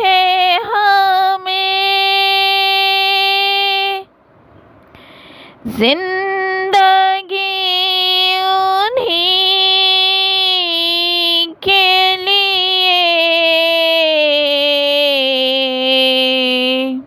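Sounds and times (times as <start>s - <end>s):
child singing: 0.0s - 4.0s, 5.7s - 17.0s.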